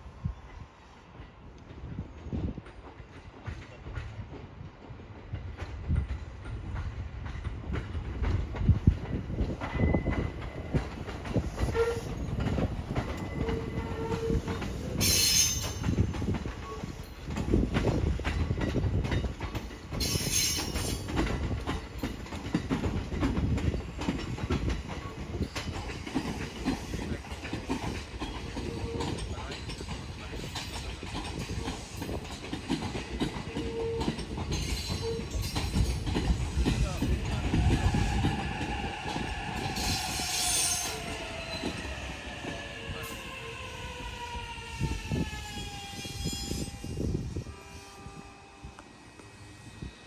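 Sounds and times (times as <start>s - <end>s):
train rumbling on rails: 0.0s - 50.0s.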